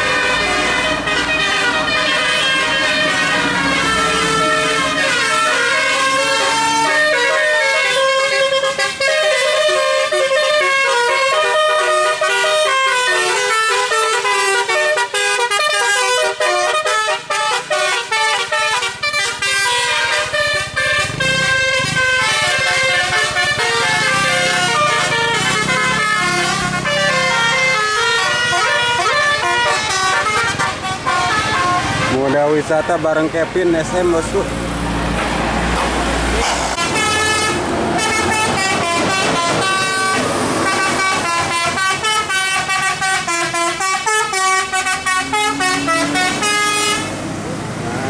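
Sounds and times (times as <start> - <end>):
musical air horn playing a tune: 0.0 - 32.4, 36.4 - 47.2
traffic engine rumble: 0.0 - 48.0.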